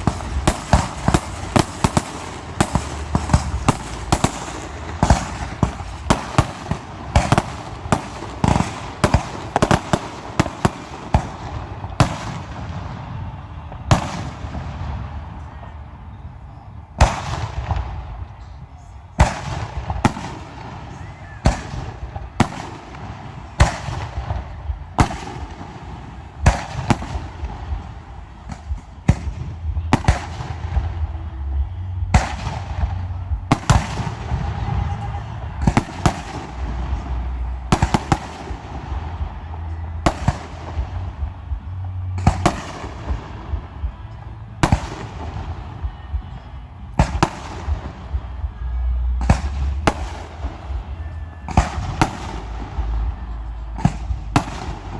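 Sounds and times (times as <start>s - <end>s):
continuous rumble: 0.0s - 54.9s.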